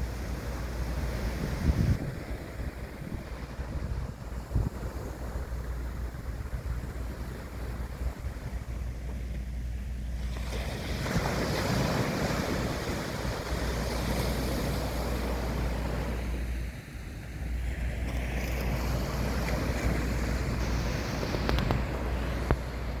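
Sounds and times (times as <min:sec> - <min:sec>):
sea waves washing and surging: 0:00.0 - 0:23.0
wind rumbling on microphone: 0:00.0 - 0:23.0.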